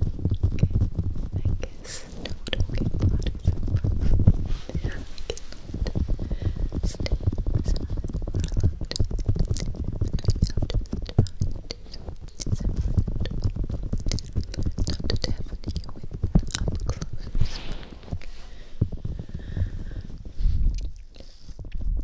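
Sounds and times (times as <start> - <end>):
fingertips tapping on microphone: 0.0 - 22.0.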